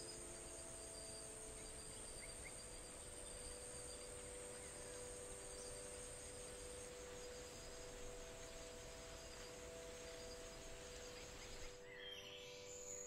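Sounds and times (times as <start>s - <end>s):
ambient drone: 0.0s - 13.0s.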